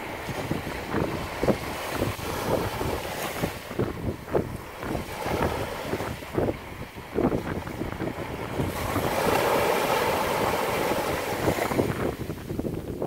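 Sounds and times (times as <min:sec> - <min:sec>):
small waves breaking on sand: 0:00.0 - 0:13.0
wind buffeting microphone: 0:00.0 - 0:13.0.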